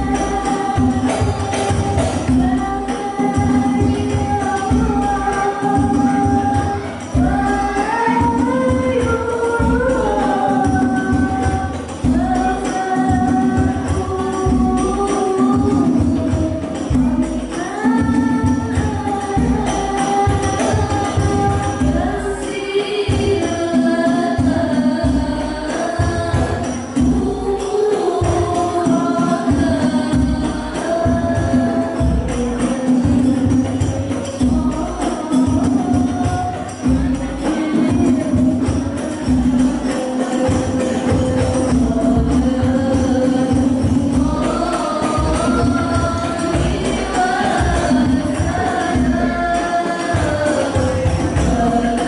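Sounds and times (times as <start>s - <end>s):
frame drums playing rhythm: 0.0s - 52.0s
group singing devotional song: 0.0s - 52.0s.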